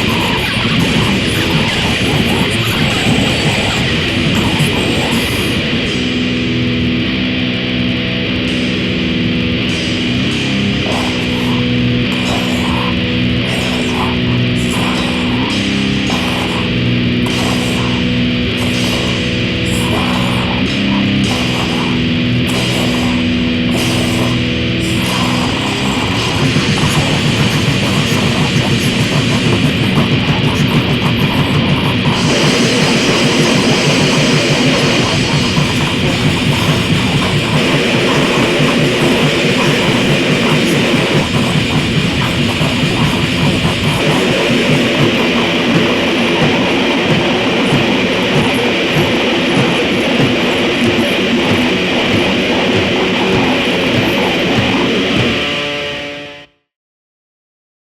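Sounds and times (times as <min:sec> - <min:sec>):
grind metal band playing: 0:00.0 - 0:56.5
distorted guitar chords: 0:00.0 - 0:56.7.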